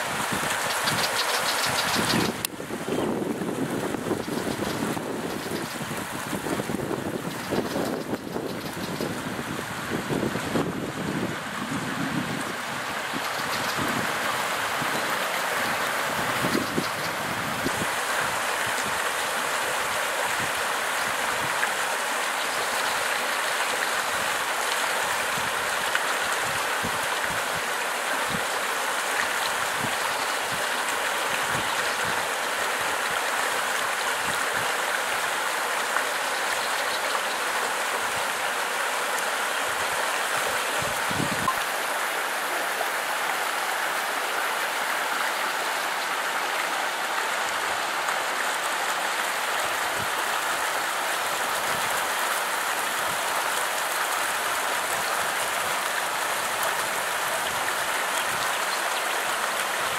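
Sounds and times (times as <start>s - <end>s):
creek water over rocks: 0.0s - 59.9s.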